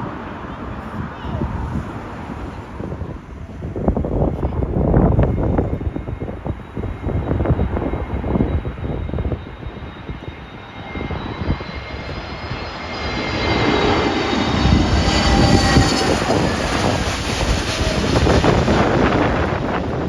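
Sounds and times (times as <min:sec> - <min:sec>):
jet airliner engine whine: 0:00.0 - 0:20.0
wind buffeting microphone: 0:00.0 - 0:20.0.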